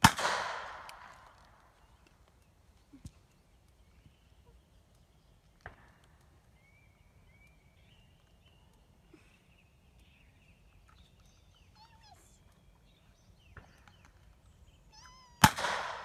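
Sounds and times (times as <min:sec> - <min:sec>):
distant bird calls: 0:00.4 - 0:16.0.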